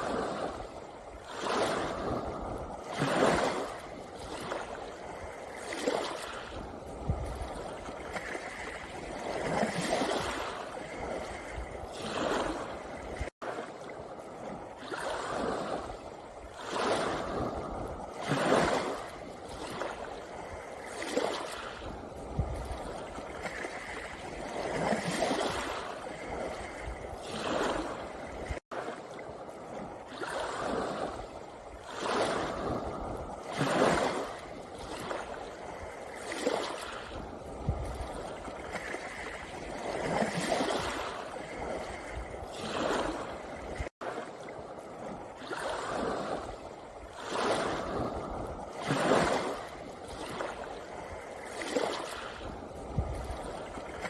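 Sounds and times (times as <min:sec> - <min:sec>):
waves washing onto pebble beach: 0:00.0 - 0:54.0.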